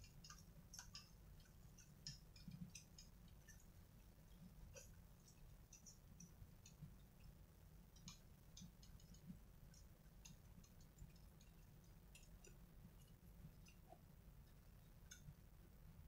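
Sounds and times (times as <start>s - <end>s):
faint high ticks and clicks: 0.0s - 16.0s.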